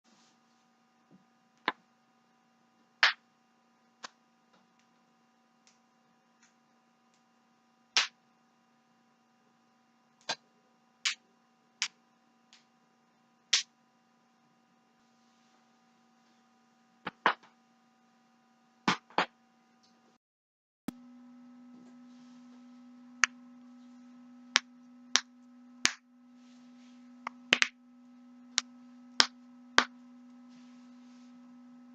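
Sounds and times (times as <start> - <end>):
faint hum: 0.1 - 20.2, 20.9 - 31.9.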